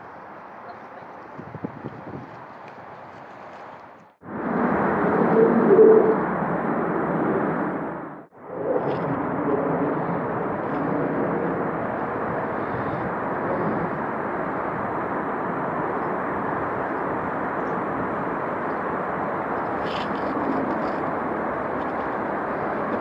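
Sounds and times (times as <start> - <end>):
outdoor rushing noise: 1.3 - 23.0.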